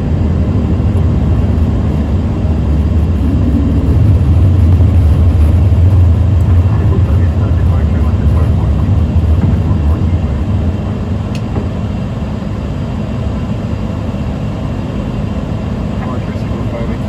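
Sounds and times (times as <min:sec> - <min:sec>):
aircraft engines and airflow rumble: 0:00.0 - 0:17.0.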